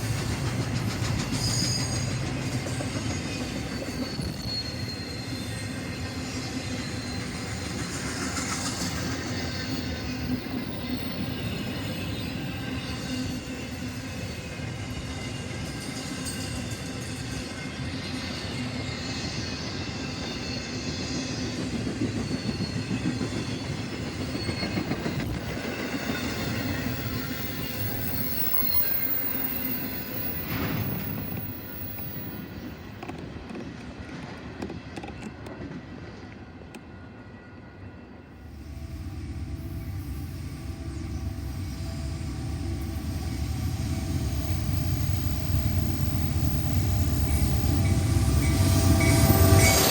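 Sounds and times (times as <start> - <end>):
steel wheels squealing on track: 0.0 - 33.2, 38.4 - 49.9
train rumbling on rails: 0.0 - 49.9.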